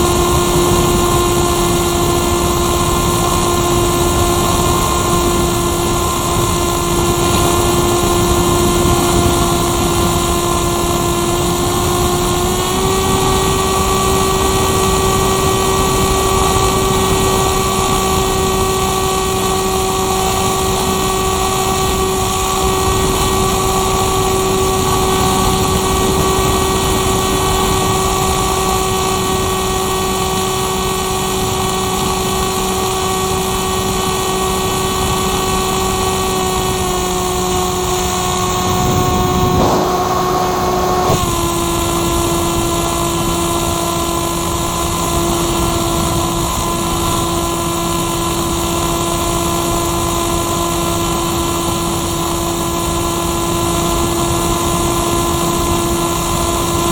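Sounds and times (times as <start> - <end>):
airflow noise: 0.0 - 48.7
model aircraft motor and propeller: 0.0 - 56.9.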